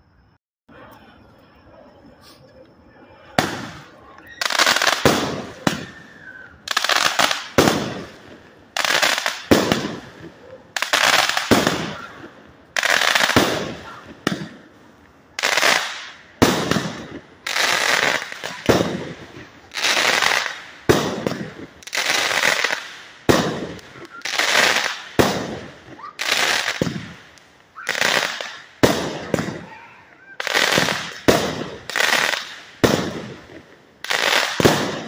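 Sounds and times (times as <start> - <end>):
firework cake firing: 3.3 - 35.0.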